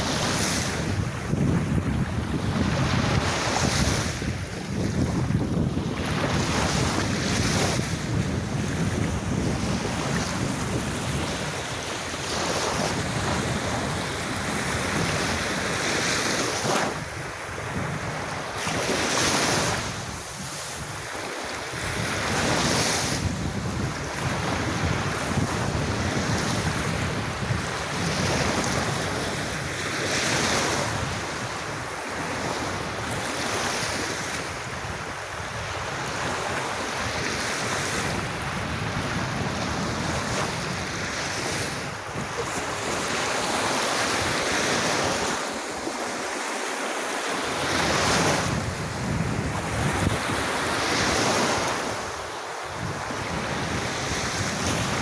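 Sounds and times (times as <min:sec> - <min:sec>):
wind buffeting microphone: 0:00.0 - 0:46.2, 0:47.5 - 0:55.0
sea waves washing onto beach: 0:00.0 - 0:55.0.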